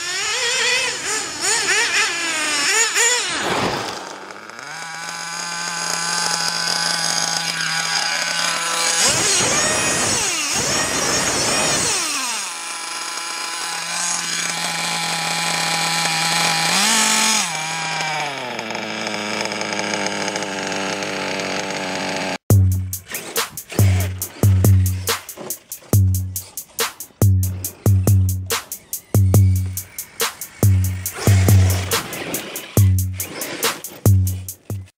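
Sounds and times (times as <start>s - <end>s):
nitro engine screaming: 0.0s - 22.4s, 23.0s - 26.6s, 27.4s - 34.9s.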